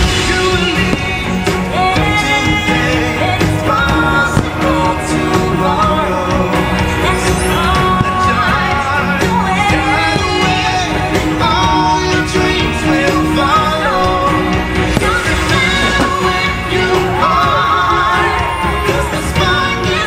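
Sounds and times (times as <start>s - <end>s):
upbeat pop-rock song: 0.0s - 20.0s.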